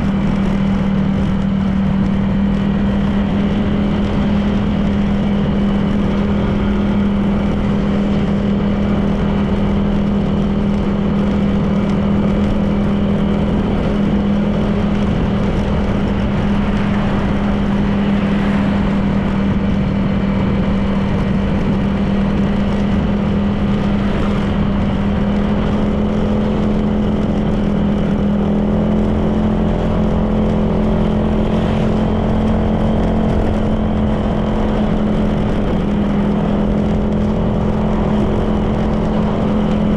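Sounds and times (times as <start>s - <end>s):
road and wind noise: 0.0s - 39.9s
scooter engine cruising: 0.0s - 39.9s.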